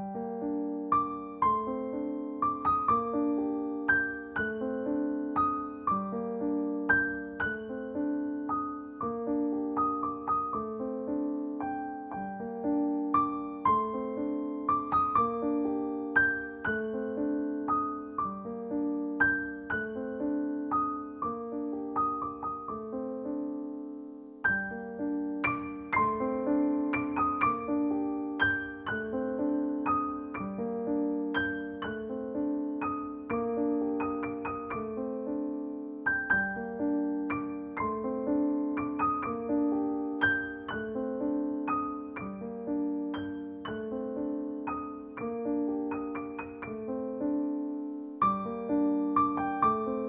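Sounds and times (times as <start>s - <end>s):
gentle piano tune: 0.0s - 50.0s.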